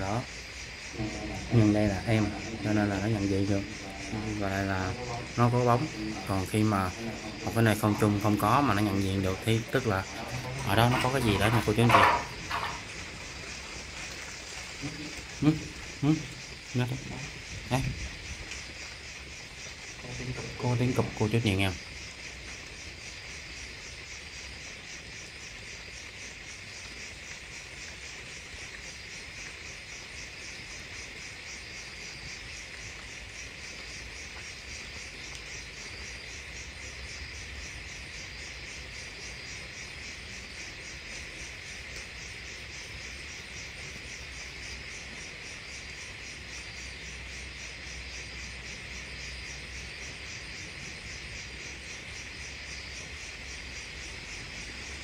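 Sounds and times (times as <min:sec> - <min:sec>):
night insects chirping: 0:00.0 - 0:55.0.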